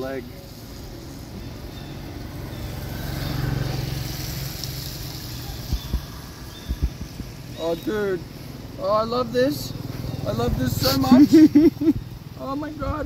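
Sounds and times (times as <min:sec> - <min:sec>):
vehicle engine hum passing: 0:00.0 - 0:13.0.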